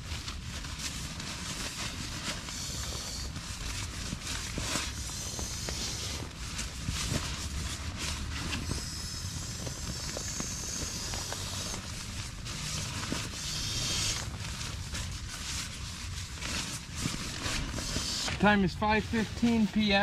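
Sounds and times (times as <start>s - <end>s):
rain on tent fabric: 0.0s - 20.0s
tarp and gear rustling: 0.0s - 20.0s.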